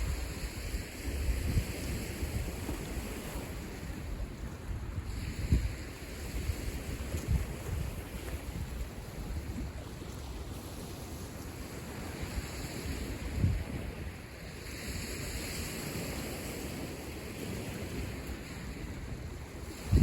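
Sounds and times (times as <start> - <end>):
surf hiss: 0.0 - 20.0
waves washing onto shore: 0.0 - 20.0
wind buffeting microphone: 0.0 - 20.0.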